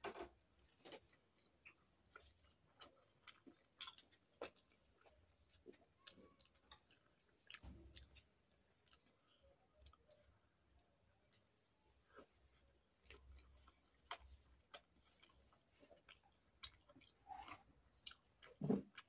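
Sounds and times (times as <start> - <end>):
person chewing wetly: 0.9 - 11.0, 12.1 - 19.0.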